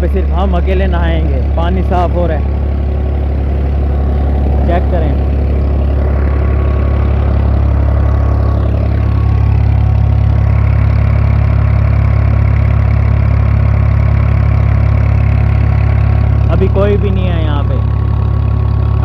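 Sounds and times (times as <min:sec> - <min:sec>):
pump engine humming: 0:00.0 - 0:19.0.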